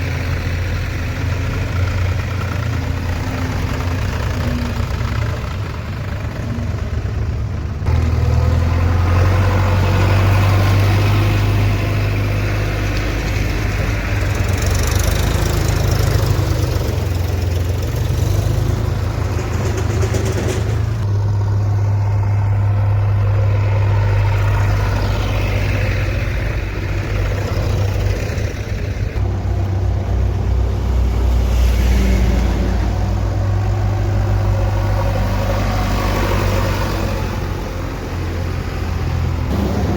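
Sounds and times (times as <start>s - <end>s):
diesel engine running: 0.0s - 31.5s, 32.1s - 39.9s.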